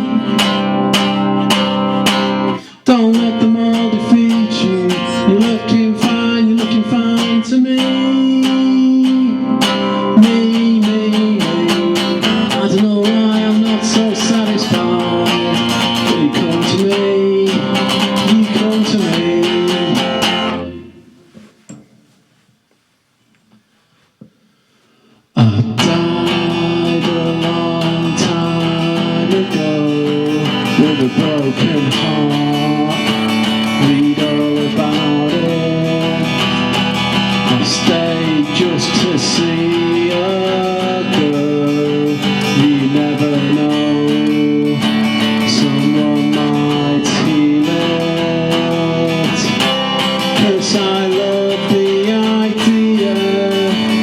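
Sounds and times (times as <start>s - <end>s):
solo acoustic guitar: 0.0s - 22.1s, 25.4s - 54.0s.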